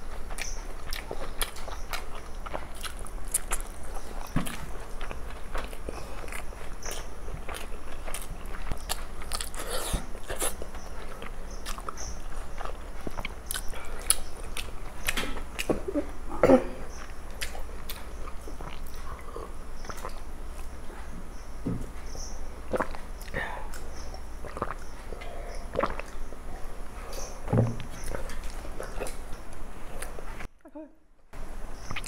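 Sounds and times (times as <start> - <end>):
mouths chewing with smacks: 0.0 - 16.2, 16.8 - 30.5, 31.8 - 32.0.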